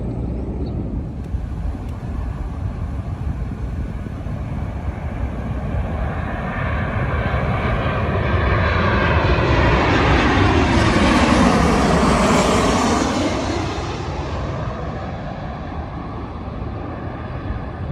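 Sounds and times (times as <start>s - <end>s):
jet airliner engines rumbling: 0.0s - 17.9s
jet engine whine: 0.0s - 17.9s.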